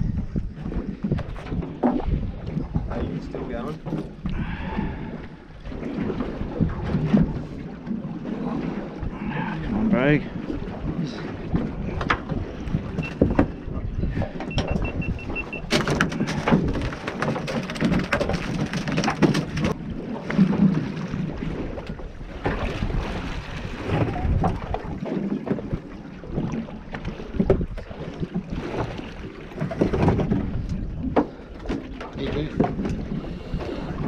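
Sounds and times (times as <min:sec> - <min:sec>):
water sloshing against hull: 0:00.0 - 0:34.0
wind buffeting microphone: 0:00.0 - 0:34.0.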